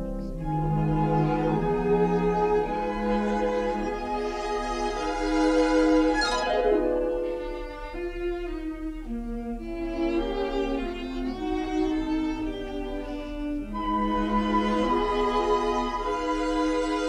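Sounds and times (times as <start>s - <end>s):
orchestral bowed strings melody: 0.0s - 17.0s.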